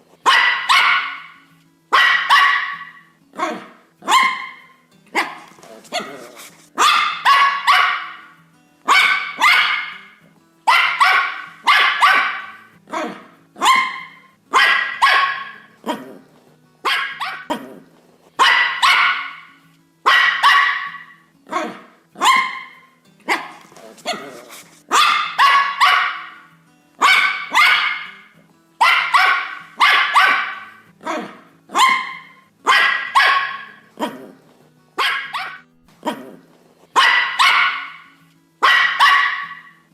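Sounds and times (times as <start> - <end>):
faint background music: 0.0 - 39.9
dog barking: 0.2 - 16.2, 16.8 - 17.8, 18.4 - 34.4, 35.0 - 39.9.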